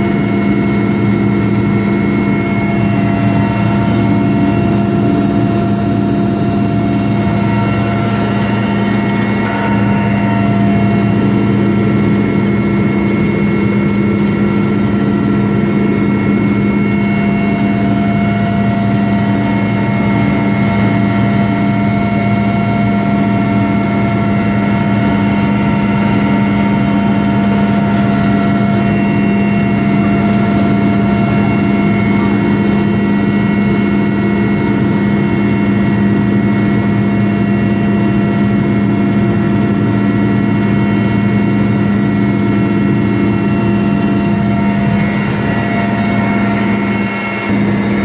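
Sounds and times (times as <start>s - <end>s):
helicopter cabin drone: 0.0s - 48.0s.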